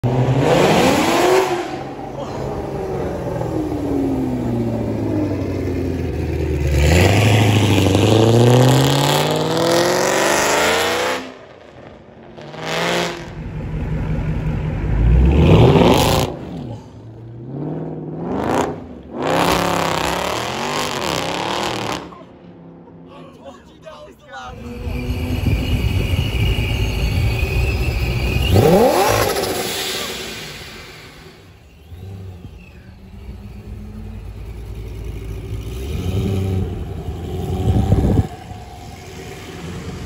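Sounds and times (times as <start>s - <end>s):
cars accelerating hard: 0.0s - 13.4s, 14.4s - 22.3s, 24.5s - 40.0s.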